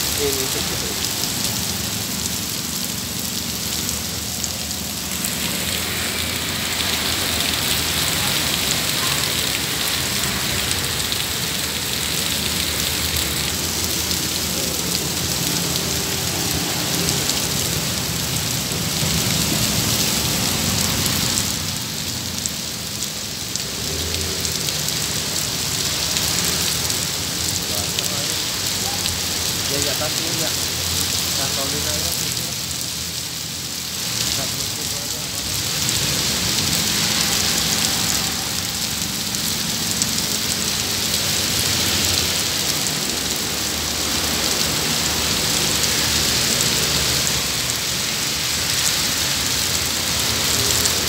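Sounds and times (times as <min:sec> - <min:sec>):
heavy rain on pavement: 0:00.0 - 0:51.0.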